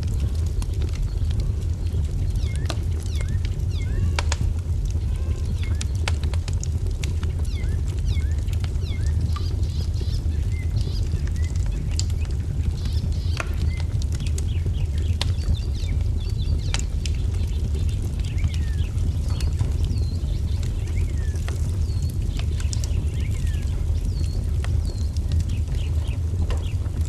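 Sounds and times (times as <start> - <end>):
low fire rumble: 0.0 - 27.0
wood fire crackling and popping: 0.0 - 27.0
small birds chirping: 0.1 - 27.0.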